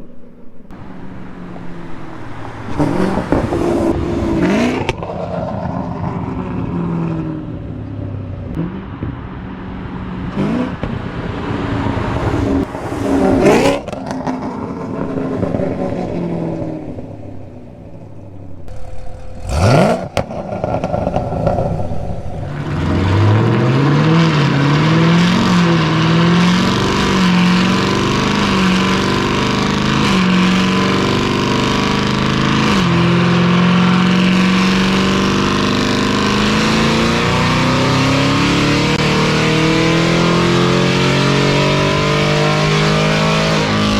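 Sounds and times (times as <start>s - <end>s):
car exhaust revving: 0.0s - 43.9s.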